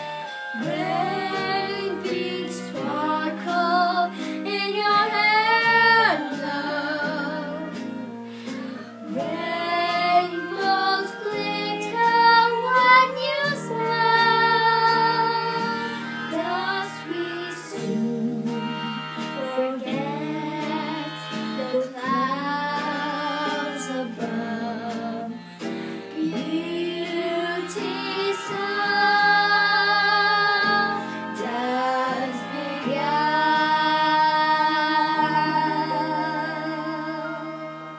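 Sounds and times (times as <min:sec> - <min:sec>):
instrumental accompaniment: 0:00.0 - 0:37.9
girl singing: 0:00.5 - 0:08.1, 0:08.8 - 0:37.9.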